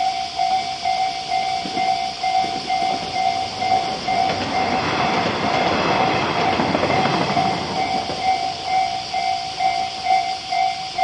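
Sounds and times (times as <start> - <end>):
train rumble and wheel clatter: 0.0 - 11.0.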